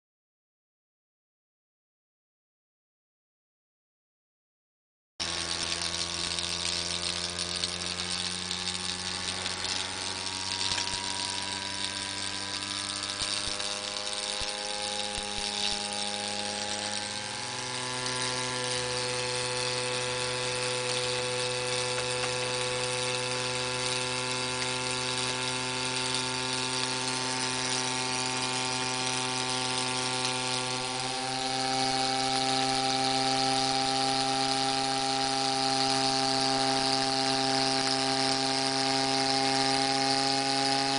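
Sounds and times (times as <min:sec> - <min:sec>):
miniature steam engine running: 0:05.2 - 0:40.9.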